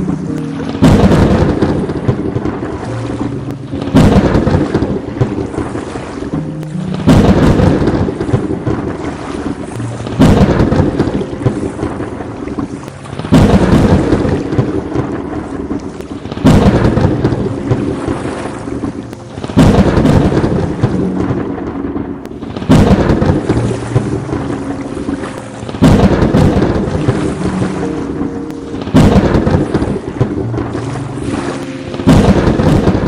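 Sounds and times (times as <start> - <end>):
thunder booms: 0.0 - 6.0, 6.9 - 33.0
steady rain: 0.0 - 33.0.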